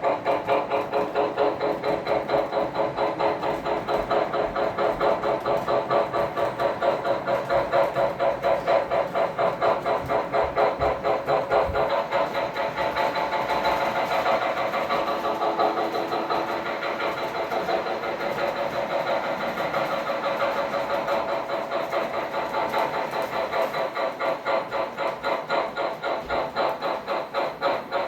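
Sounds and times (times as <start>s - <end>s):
model train locomotive running: 0.0s - 28.0s.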